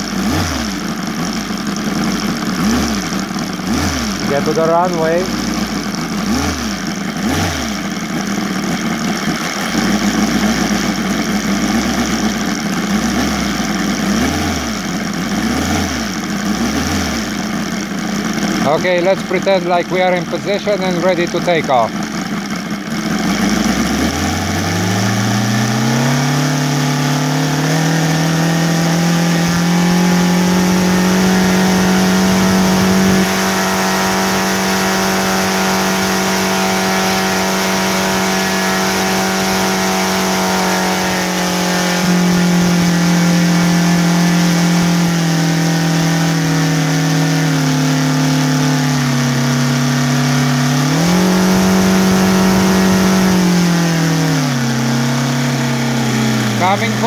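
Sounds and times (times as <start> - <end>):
model radial engine revving: 0.0 - 57.0.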